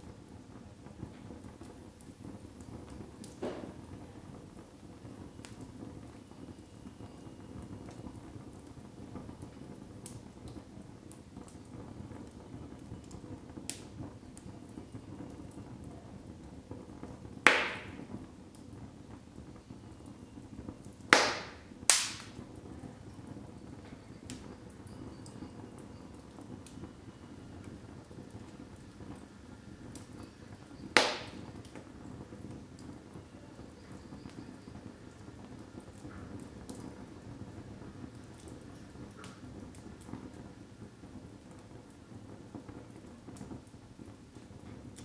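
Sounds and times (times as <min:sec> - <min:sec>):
fire burning with crackles: 0:00.0 - 0:45.0
loud pops from fire: 0:00.0 - 0:45.0.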